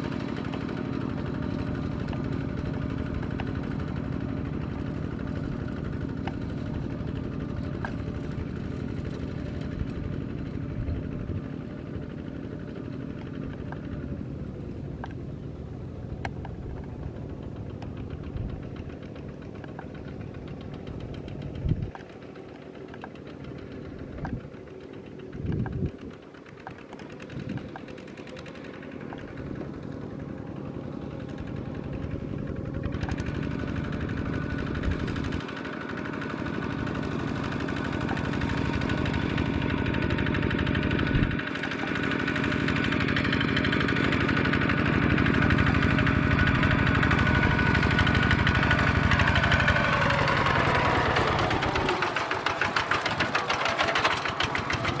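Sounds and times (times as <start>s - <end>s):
diesel tractor engine chugging: 0.0s - 55.0s.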